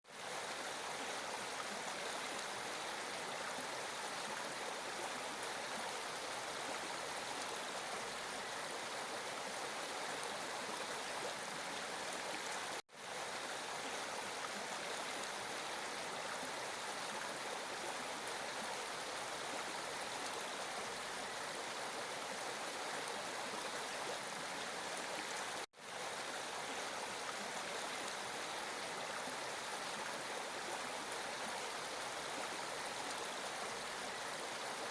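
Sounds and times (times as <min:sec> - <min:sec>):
flowing water rushing: 0:00.1 - 0:34.9.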